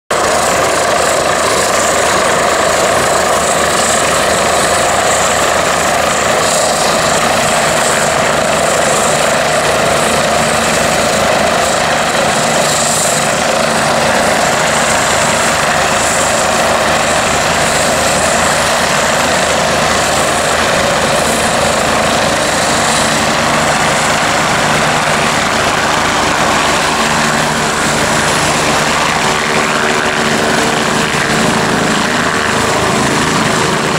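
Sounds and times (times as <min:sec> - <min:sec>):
helicopter rotor and engines: 0:00.1 - 0:33.9.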